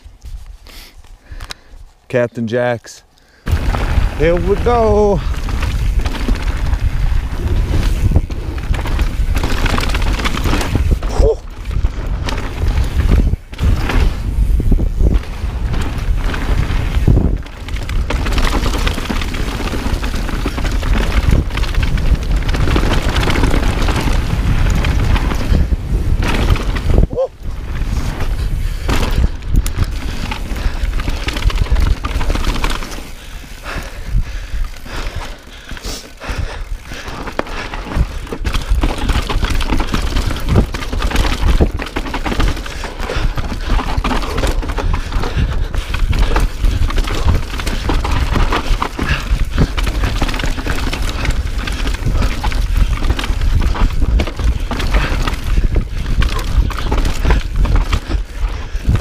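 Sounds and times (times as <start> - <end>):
bike tyres on dirt and rocks: 0.0 - 59.0
bike rattling: 3.4 - 59.0
wind on microphone: 3.5 - 59.0.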